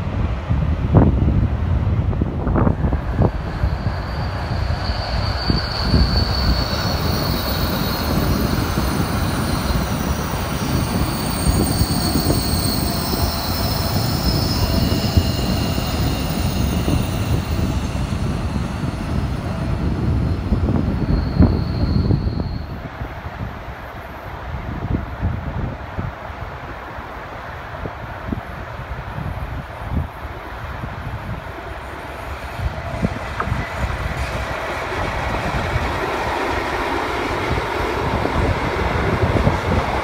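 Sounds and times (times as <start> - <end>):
train wheels squealing on rails: 2.4 - 25.0, 29.1 - 40.0.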